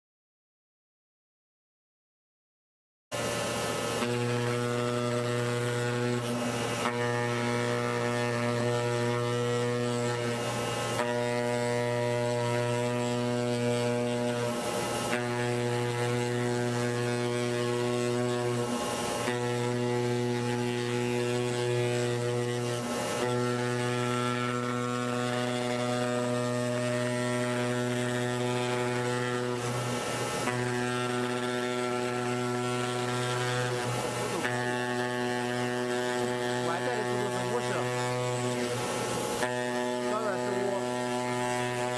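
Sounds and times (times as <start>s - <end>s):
oscillating knife cutter humming: 3.1s - 41.9s.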